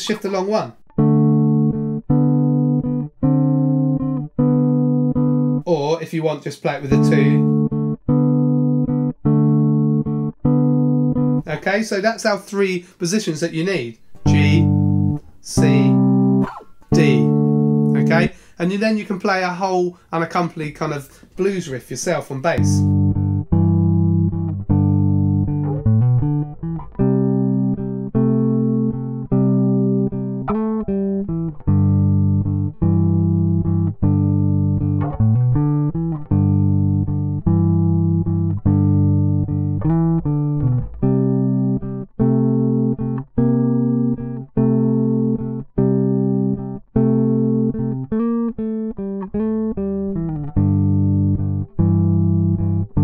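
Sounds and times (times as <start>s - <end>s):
electric bass blues riff: 0.0s - 5.7s, 6.8s - 11.8s, 14.0s - 18.5s, 22.4s - 53.0s.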